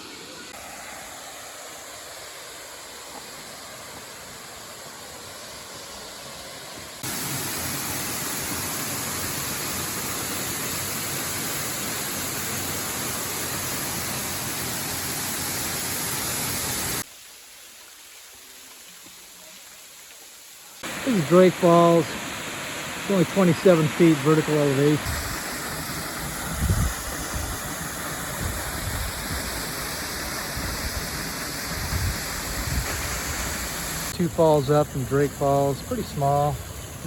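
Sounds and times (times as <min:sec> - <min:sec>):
waterfall rushing: 0:00.0 - 0:17.1, 0:20.8 - 0:37.0.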